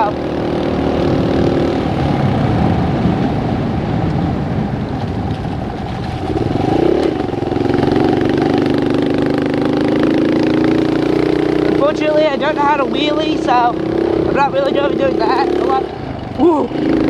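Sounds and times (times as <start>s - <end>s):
dirt bike engine revving: 0.0s - 3.2s, 5.8s - 17.0s.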